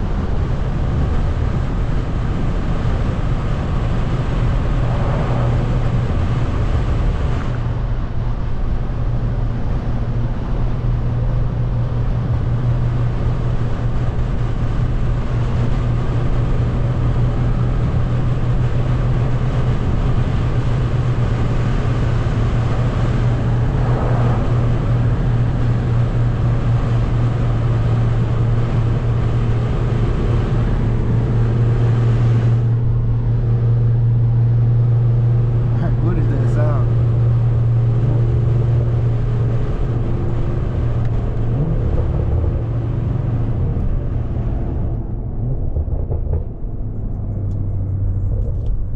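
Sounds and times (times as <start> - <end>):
loud car exhaust drone: 0.0 - 48.9.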